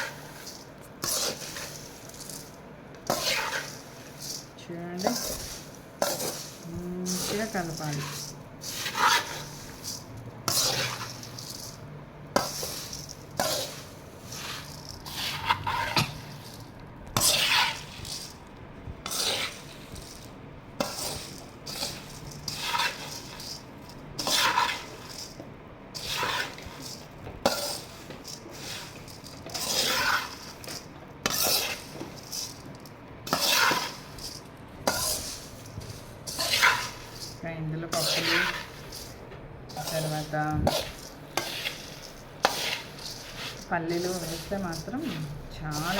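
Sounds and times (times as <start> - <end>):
spoon scraping puffed rice in pan: 0.0 - 45.9.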